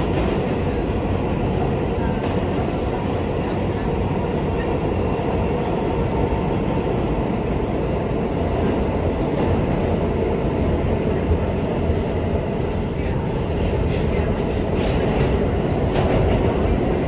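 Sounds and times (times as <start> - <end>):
subway car wheels rumbling: 0.0 - 17.0.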